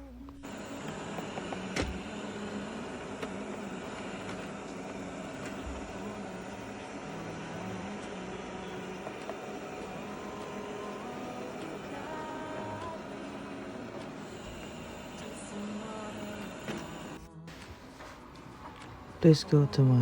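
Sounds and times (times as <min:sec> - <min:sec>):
robot vacuum whirring hum: 0:00.4 - 0:20.0.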